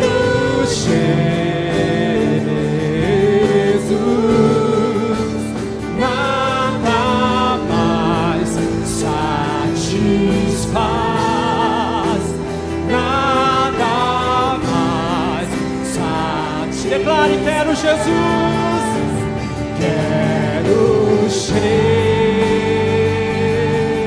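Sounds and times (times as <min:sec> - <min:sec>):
sustained instrumental chords: 0:00.0 - 0:24.0
voices singing worship music: 0:00.0 - 0:24.0.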